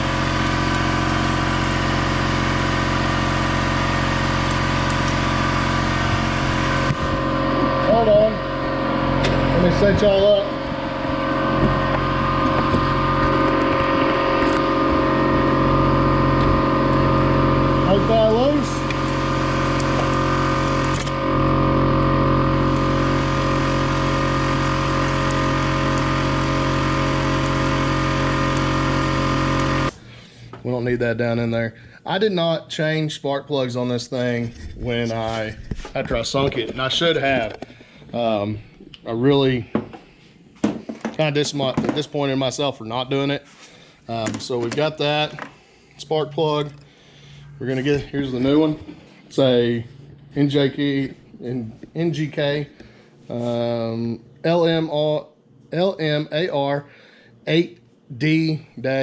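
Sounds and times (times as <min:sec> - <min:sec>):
air compressor running: 0:00.0 - 0:32.2, 0:34.1 - 0:57.6.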